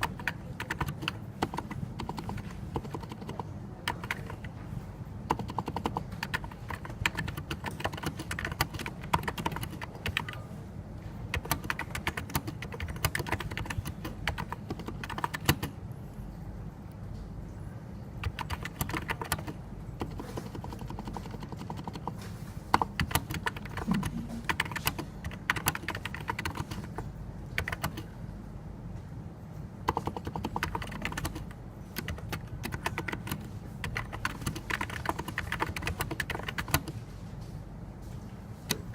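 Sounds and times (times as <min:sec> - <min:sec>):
keyboard typing: 0:00.0 - 0:10.5, 0:11.2 - 0:15.8, 0:18.2 - 0:28.2, 0:29.8 - 0:37.1, 0:38.6 - 0:38.9
steady low hum: 0:00.0 - 0:38.9.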